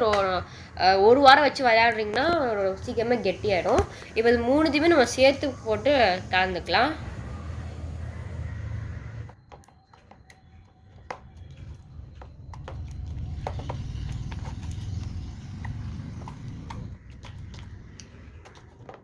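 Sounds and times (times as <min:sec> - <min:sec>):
low handling rumble: 0:00.8 - 0:09.4, 0:11.1 - 0:19.0.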